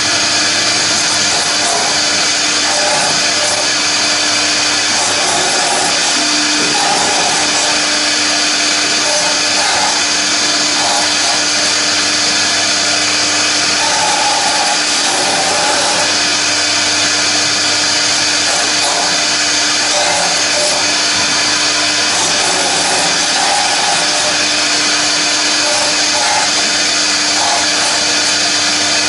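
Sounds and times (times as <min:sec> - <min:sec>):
cnc router cutter whine: 0:00.0 - 0:29.0
constant machine hum: 0:00.0 - 0:29.0.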